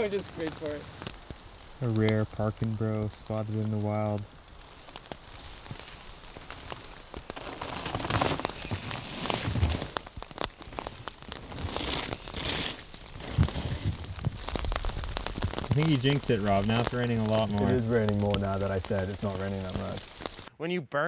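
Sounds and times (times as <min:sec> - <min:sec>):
drips ticking: 0:00.0 - 0:20.5
dull thumps: 0:00.0 - 0:20.5
rain falling: 0:00.0 - 0:20.5.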